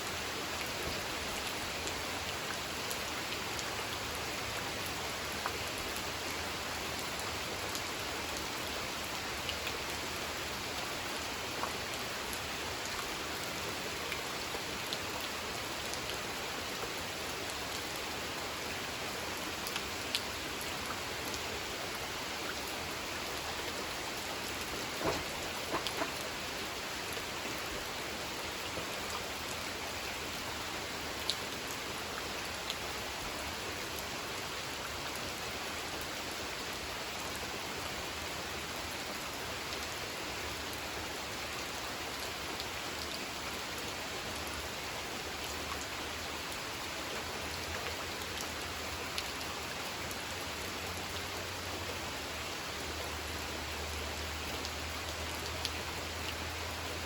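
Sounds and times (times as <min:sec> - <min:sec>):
rain drops ticking: 0:00.0 - 0:57.0
rain falling on a pond: 0:00.0 - 0:57.0.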